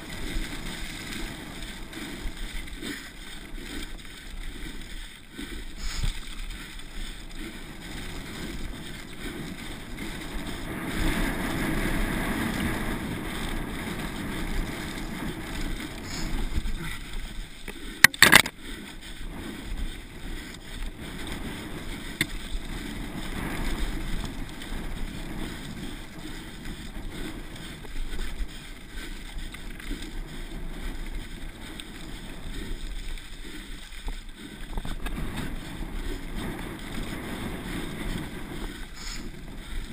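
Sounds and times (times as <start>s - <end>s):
bike tyre and frame rattle: 0.0s - 39.9s
wind on microphone: 0.0s - 39.9s.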